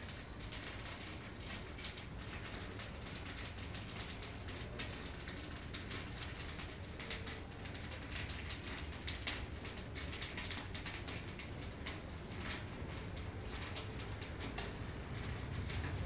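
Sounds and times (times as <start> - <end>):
fire crackling and snapping: 0.0 - 16.0.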